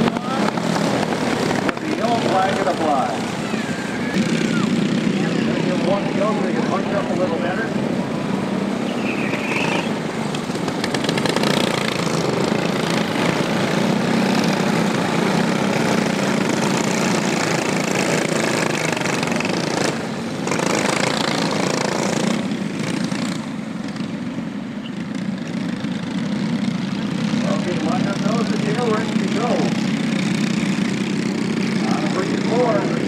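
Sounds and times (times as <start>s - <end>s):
go-kart engines buzzing: 0.0s - 33.0s.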